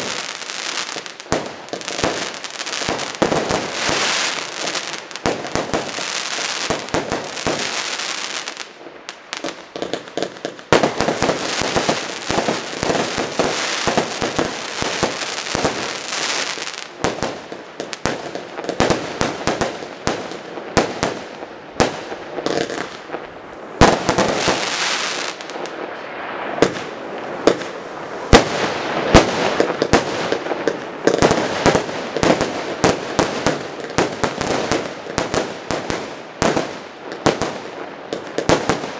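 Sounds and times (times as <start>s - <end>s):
fireworks launching and bursting: 0.0s - 38.9s.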